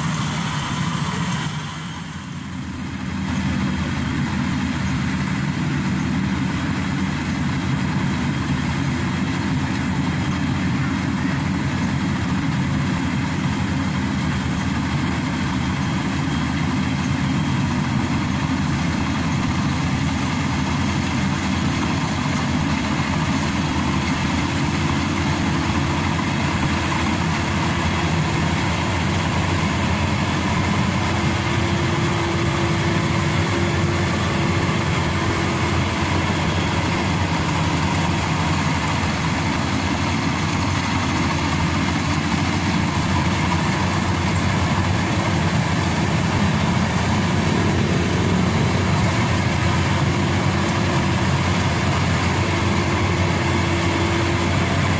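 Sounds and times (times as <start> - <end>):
combine harvester humming: 0.0 - 54.9.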